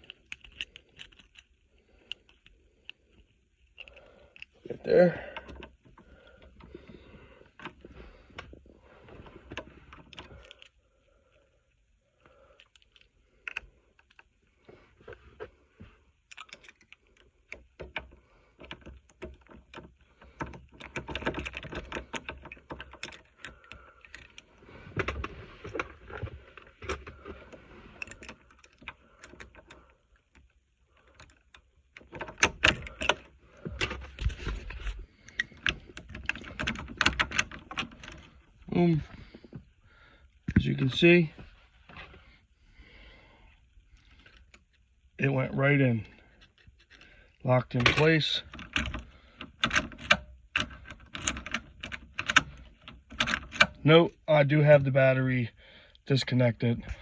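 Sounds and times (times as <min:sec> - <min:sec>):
small metal clicks and rattles: 0:00.0 - 0:08.6, 0:09.2 - 0:39.5, 0:45.9 - 0:53.8.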